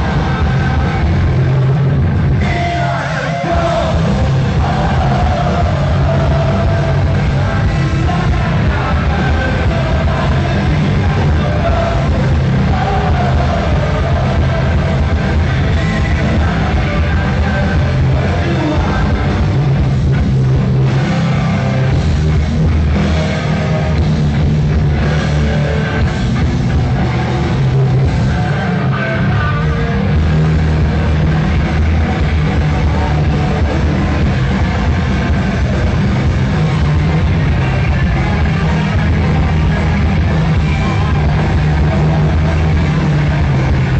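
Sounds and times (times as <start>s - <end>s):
electric guitars: 0.0s - 43.9s
rock band playing live: 0.0s - 43.9s.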